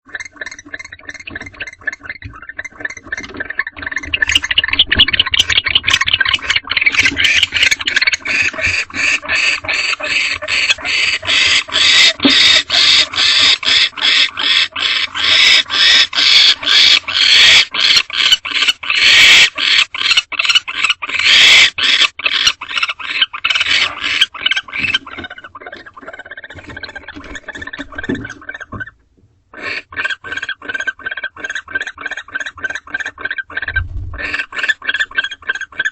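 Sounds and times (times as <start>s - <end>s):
owls chittering: 0.1s - 35.9s.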